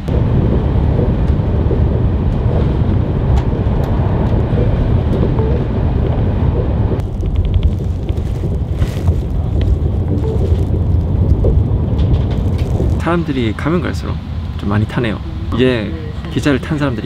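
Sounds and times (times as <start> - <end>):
train rumbling from inside: 0.0 - 17.0.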